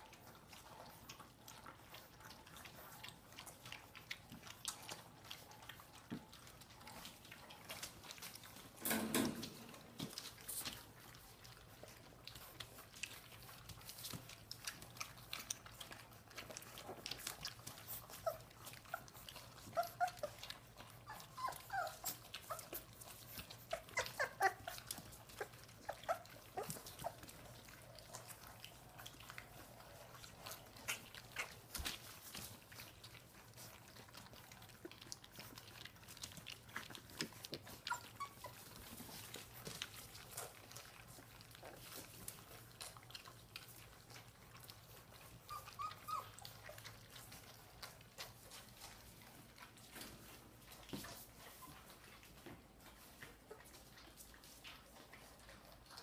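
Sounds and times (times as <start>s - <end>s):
puppies lapping food: 0.0s - 56.0s
puppies whimpering and squeaking: 0.0s - 56.0s.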